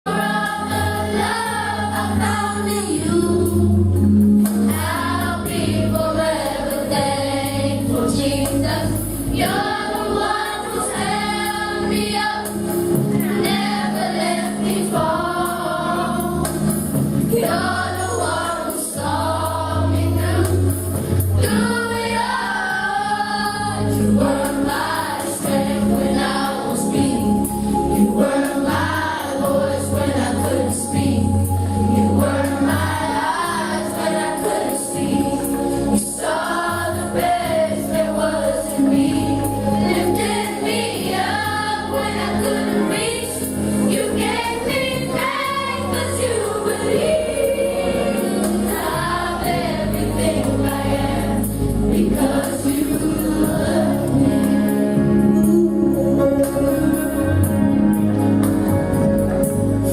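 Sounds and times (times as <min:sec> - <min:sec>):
choir singing a gospel song: 0:00.1 - 0:59.9
instrumental backing: 0:00.1 - 0:59.9
sustained bass notes: 0:00.1 - 0:59.9.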